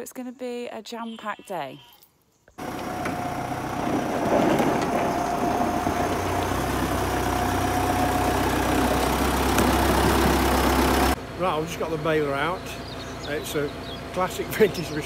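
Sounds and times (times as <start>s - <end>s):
tractor diesel engine idling: 2.6s - 15.0s.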